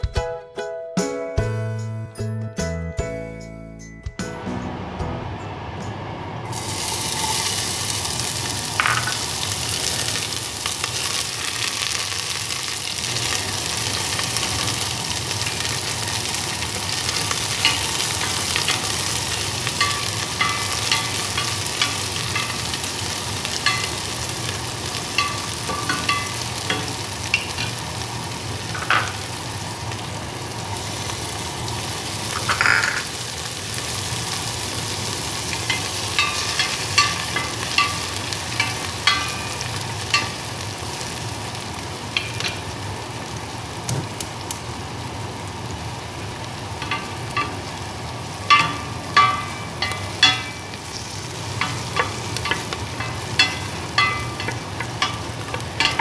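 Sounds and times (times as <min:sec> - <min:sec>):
onion sizzling in hot oil: 0:06.5 - 0:56.0.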